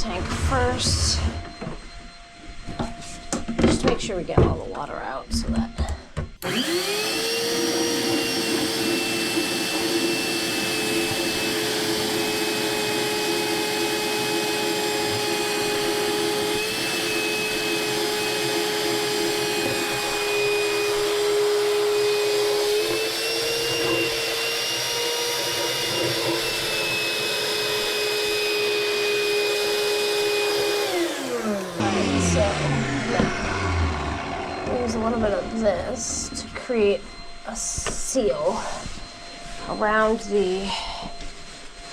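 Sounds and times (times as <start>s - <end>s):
wet dry vacuum motor whining: 0.0s - 41.9s.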